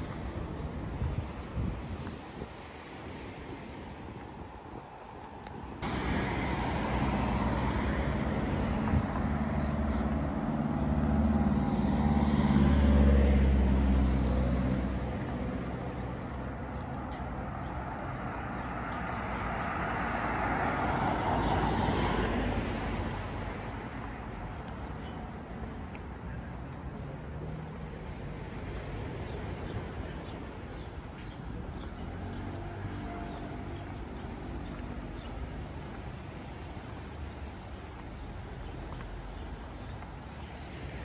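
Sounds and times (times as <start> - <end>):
vehicle passing rush: 5.3 - 41.0
vehicle engine rumble passing: 5.8 - 41.0.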